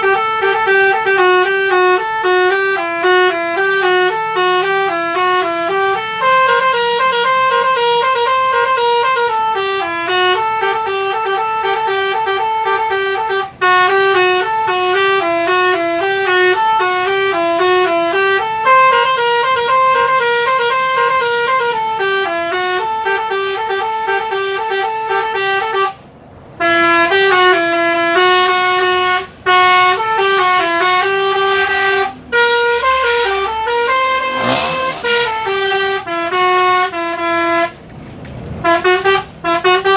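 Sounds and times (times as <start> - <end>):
musical vehicle horn melody: 0.0 - 37.8, 38.6 - 39.9.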